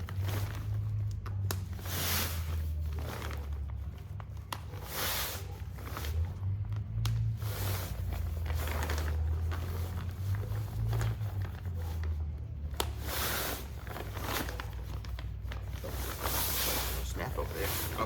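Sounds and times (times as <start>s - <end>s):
nylon pad rustling and crinkling: 0.0s - 18.0s.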